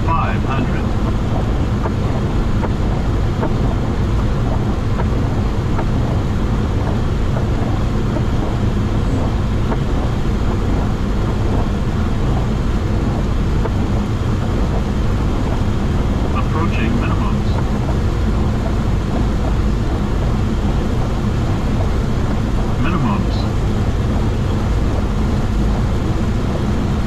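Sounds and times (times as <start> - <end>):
airflow and engine noise: 0.0 - 27.0.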